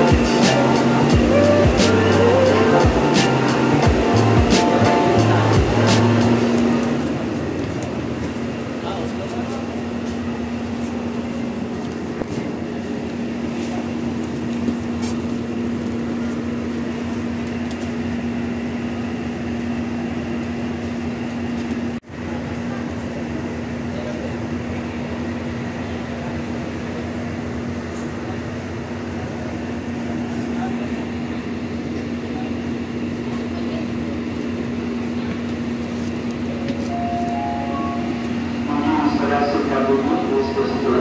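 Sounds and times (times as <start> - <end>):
air conditioning drone: 0.0 - 41.0
bus engine hum: 0.0 - 41.0.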